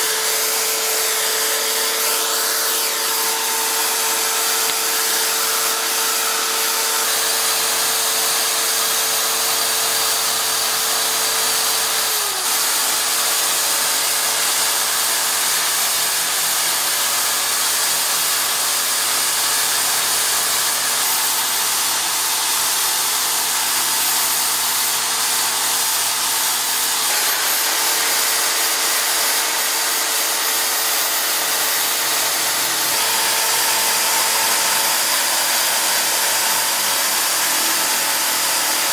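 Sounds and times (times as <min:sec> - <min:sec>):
electric power tool motor whining: 0:00.0 - 0:38.9.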